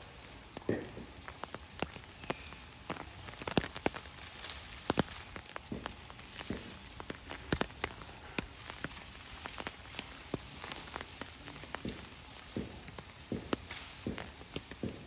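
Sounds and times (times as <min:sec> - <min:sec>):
rain drops tapping on hard surface: 0:00.0 - 0:15.0
steady rain patter: 0:00.0 - 0:15.0.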